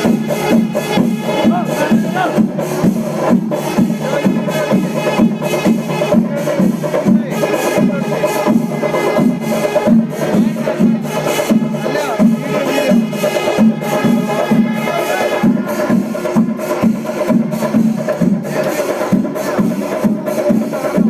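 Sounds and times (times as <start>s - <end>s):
sustained melodic tones: 0.0s - 16.9s
low drum beat: 0.0s - 21.0s.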